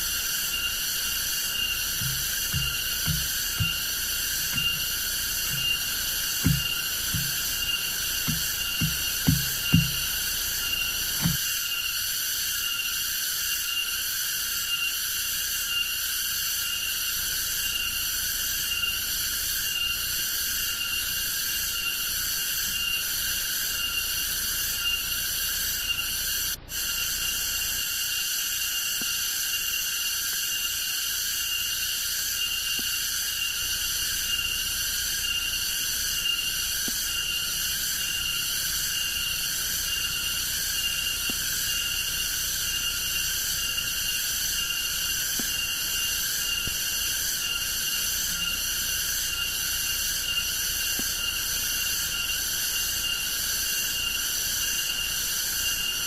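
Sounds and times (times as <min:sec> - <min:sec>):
shrill insect chorus: 0:00.0 - 0:56.0.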